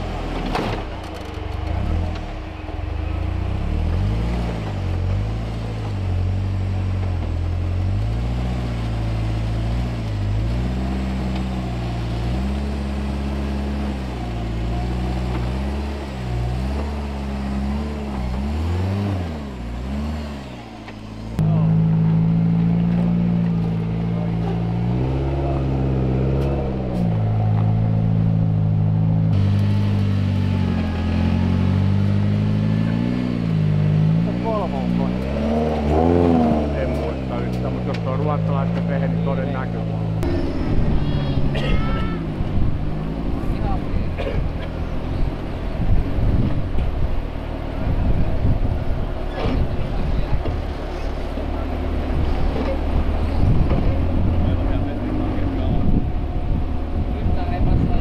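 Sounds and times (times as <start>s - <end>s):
buggy engine at low revs: 0.0s - 58.0s.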